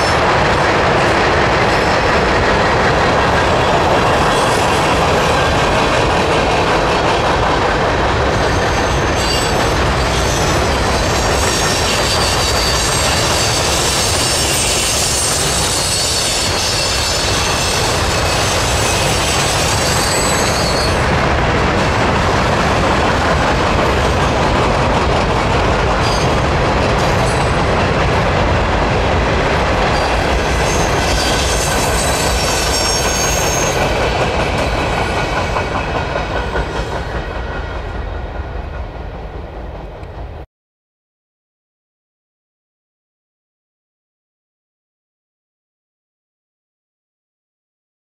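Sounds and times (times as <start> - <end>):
train wheels rumbling on rail: 0.0 - 40.5.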